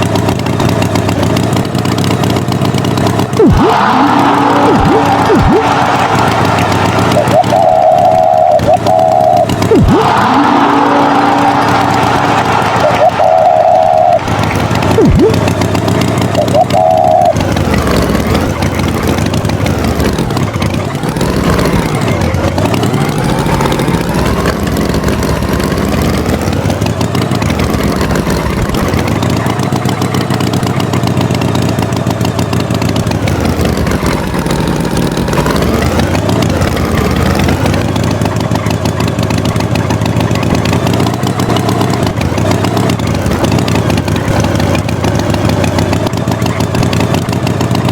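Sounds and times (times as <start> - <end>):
tractor engine revving: 0.0 - 47.9.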